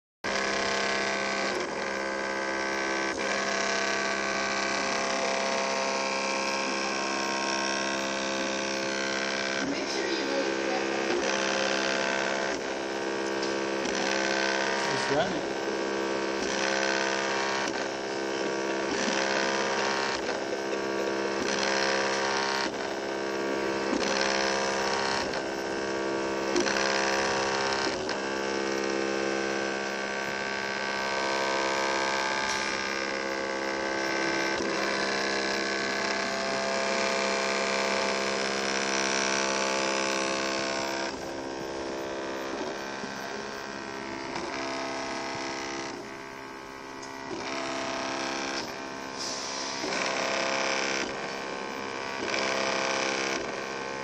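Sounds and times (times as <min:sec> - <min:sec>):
printer stepper motors whining: 0:00.3 - 0:54.0.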